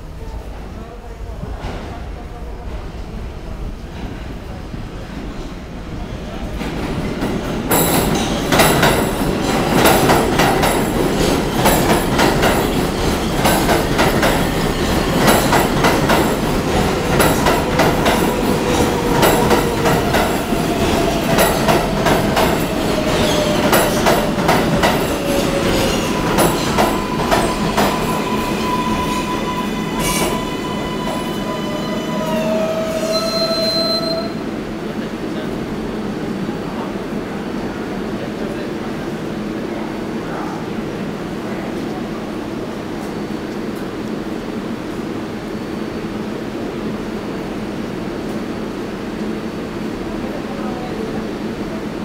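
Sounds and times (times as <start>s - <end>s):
subway train braking: 0.0s - 52.0s.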